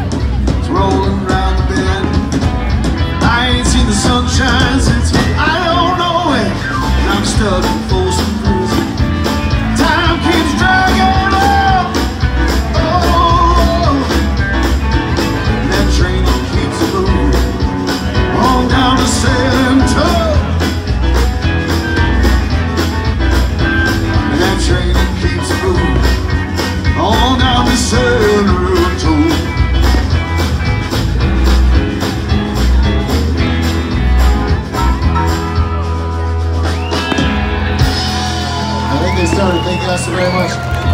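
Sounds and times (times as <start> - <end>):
electric guitars and bass: 0.0 - 40.9
steady drum beat: 0.0 - 40.9.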